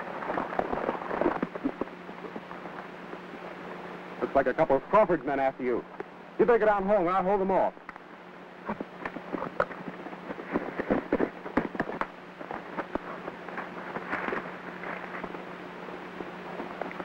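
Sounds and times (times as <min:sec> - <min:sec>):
old film soundtrack crackle and hiss: 0:00.0 - 0:17.0.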